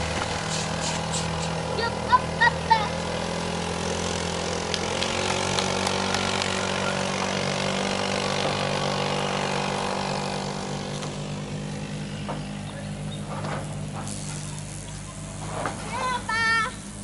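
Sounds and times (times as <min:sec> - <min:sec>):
go-kart engine idling: 0:00.0 - 0:17.0.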